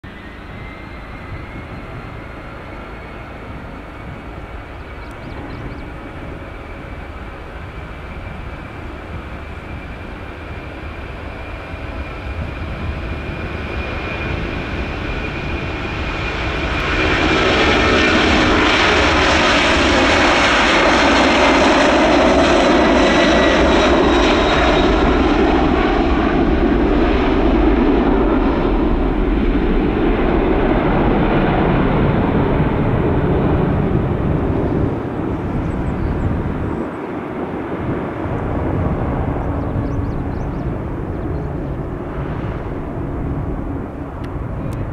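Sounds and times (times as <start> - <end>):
jet engines roaring at takeoff: 0.0 - 44.9.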